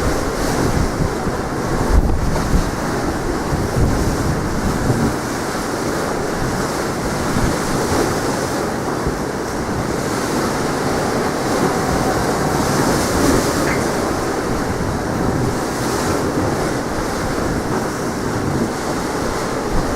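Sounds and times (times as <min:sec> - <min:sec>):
sea waves washing ashore: 0:00.0 - 0:19.9
wind buffeting microphone: 0:00.0 - 0:19.9.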